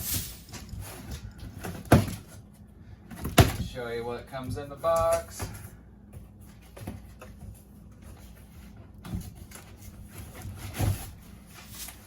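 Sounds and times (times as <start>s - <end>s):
cardboard rustling and scraping: 0.0s - 3.7s, 4.8s - 12.0s.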